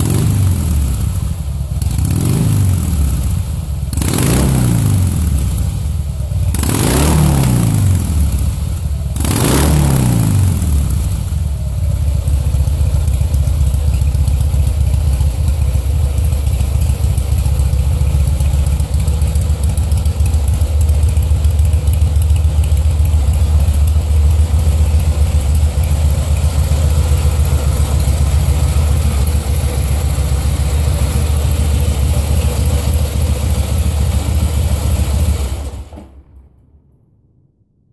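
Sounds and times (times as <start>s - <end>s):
motorcycle engine revving and idling: 0.0s - 36.2s.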